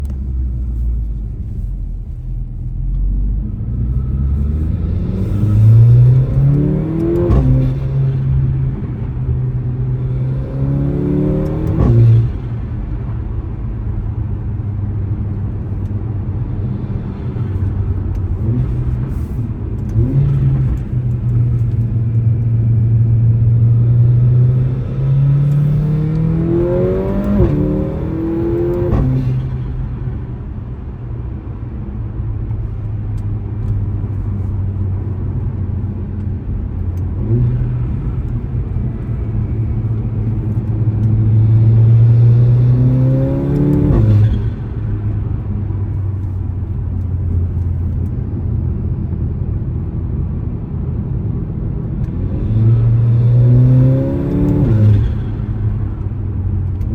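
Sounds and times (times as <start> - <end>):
car engine accelerating: 0.0 - 30.9, 31.6 - 56.9.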